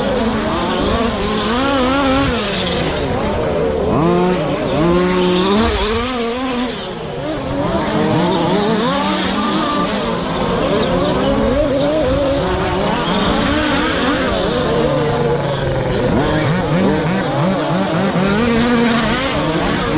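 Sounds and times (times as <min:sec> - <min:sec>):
toy truck motors whining: 0:00.0 - 0:19.9.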